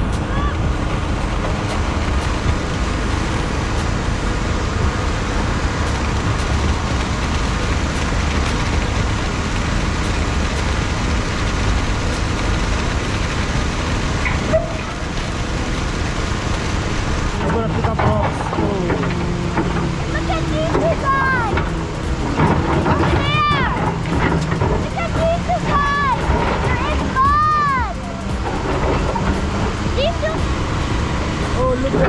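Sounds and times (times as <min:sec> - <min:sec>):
bulldozer low rumble: 0:00.0 - 0:32.0.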